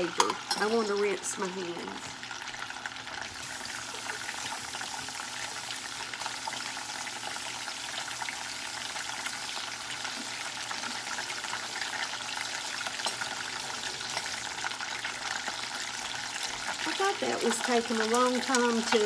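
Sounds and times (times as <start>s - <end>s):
chicken skin sizzling in oil: 0.0s - 19.0s.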